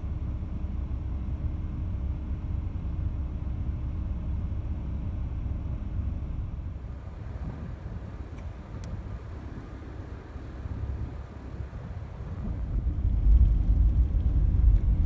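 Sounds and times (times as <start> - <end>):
car road rumble: 0.0 - 15.0
faint constant hum: 0.0 - 15.0.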